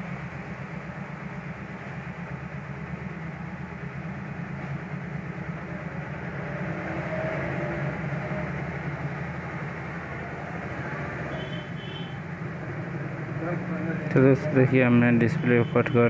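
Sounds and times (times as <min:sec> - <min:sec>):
mechanical hum and rumble: 0:00.0 - 0:16.0.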